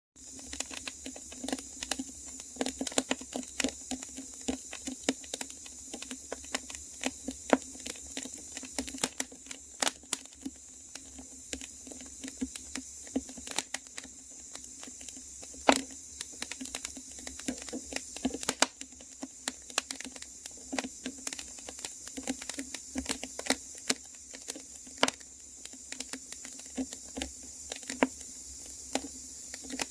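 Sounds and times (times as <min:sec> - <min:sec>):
fire crackling: 0:00.2 - 0:29.9.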